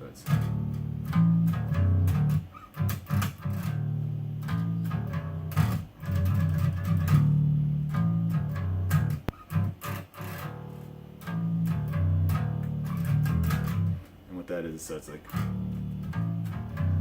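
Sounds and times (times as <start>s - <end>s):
electric bass riff: 0.0s - 17.0s.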